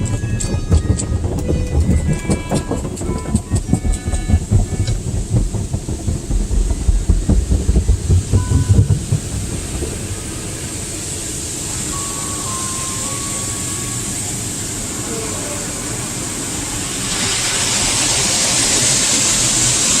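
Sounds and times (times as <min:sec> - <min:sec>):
car wash rushing hiss: 0:00.0 - 0:20.0.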